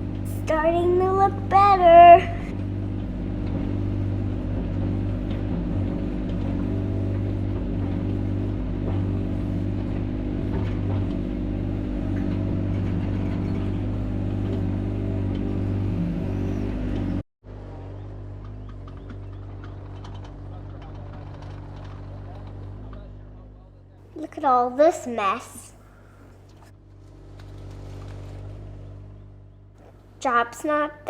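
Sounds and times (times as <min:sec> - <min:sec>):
excavator engine running: 0:00.0 - 0:31.0
low engine hum: 0:00.0 - 0:31.0.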